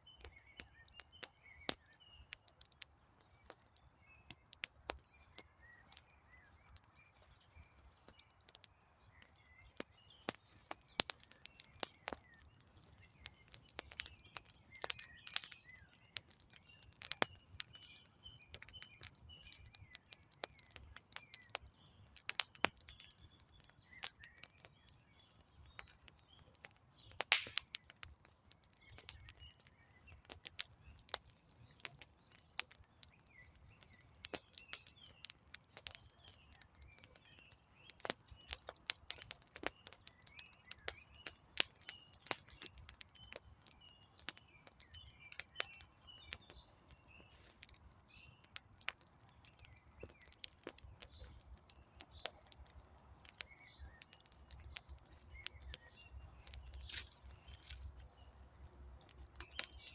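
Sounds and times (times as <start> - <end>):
birds chirping: 0.0 - 59.9
campfire crackling and popping: 0.0 - 59.9.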